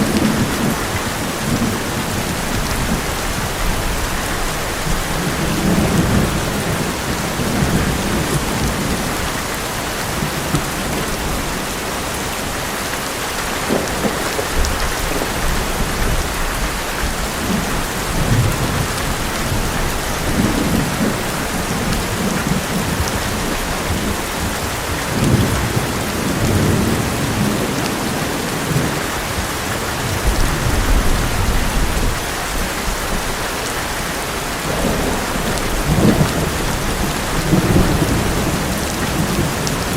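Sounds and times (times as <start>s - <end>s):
low rumbling thunder: 0.0s - 11.7s, 13.4s - 33.4s, 34.6s - 39.9s
heavy rain on metal roof: 0.0s - 39.9s.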